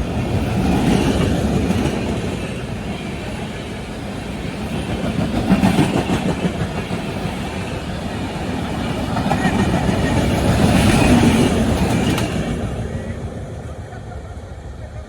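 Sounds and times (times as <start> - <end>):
passenger train passing: 0.0 - 15.0
wheels on rails: 0.1 - 15.0.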